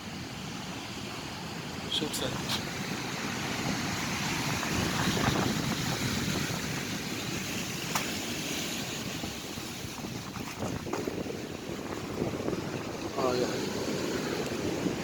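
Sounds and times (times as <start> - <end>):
surf washing on a beach: 0.0 - 15.0
wind rumbling on microphone: 0.0 - 15.0.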